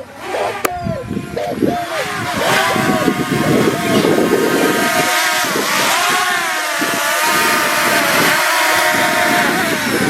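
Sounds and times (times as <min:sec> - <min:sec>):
drone propeller motors whining: 0:00.0 - 0:10.0.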